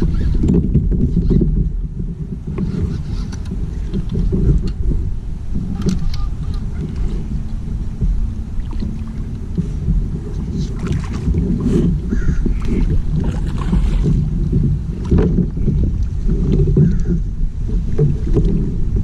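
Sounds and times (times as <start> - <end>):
kayak hull low rumble: 0.0 - 19.0
water splashing: 0.0 - 19.0.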